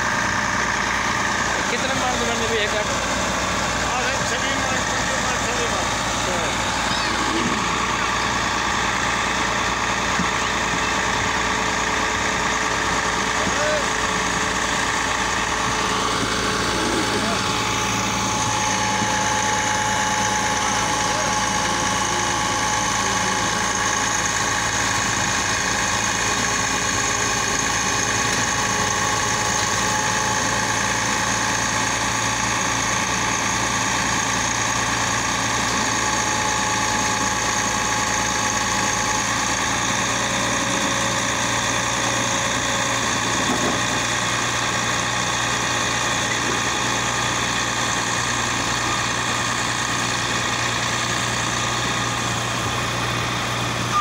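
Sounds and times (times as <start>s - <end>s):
baler running noise: 0.0s - 54.0s
engine drone: 0.0s - 54.0s.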